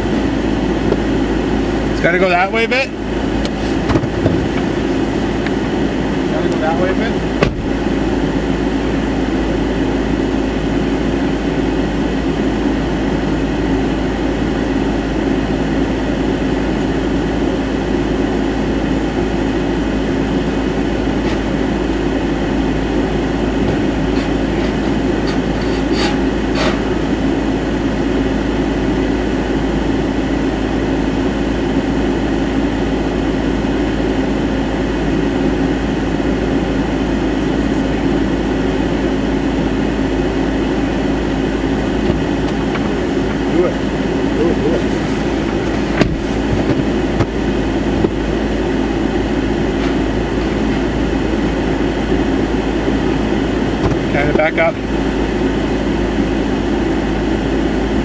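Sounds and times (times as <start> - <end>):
vehicle idling hum: 0.0 - 58.0.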